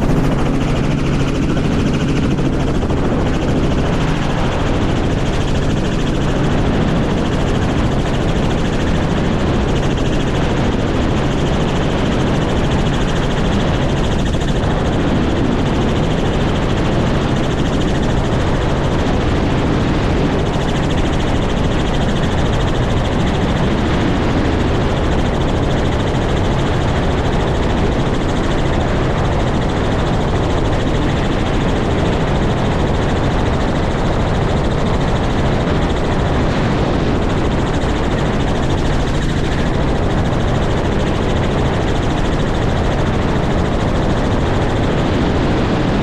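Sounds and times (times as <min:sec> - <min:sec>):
helicopter rotor and engine: 0:00.0 - 0:46.0.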